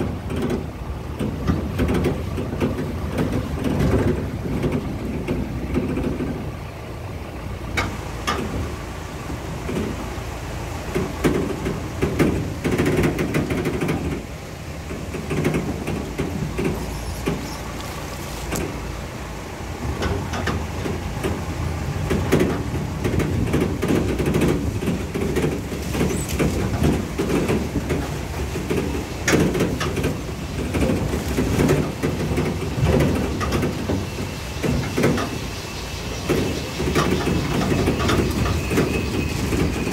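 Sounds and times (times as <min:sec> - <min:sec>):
car body knocking and rattling: 0:00.0 - 0:06.6, 0:07.6 - 0:08.8, 0:09.5 - 0:19.0, 0:19.8 - 0:39.9
car engine and tyres rumbling: 0:00.0 - 0:39.9.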